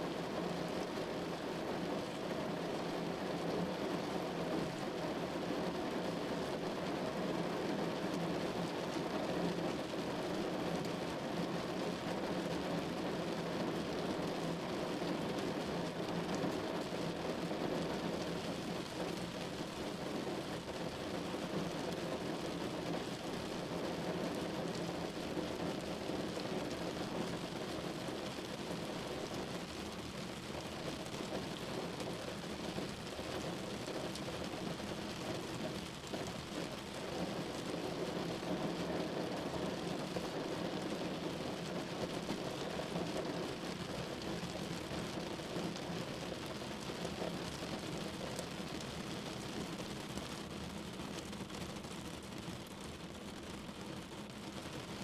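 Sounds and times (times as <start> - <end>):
rain on a window: 0.0 - 55.0.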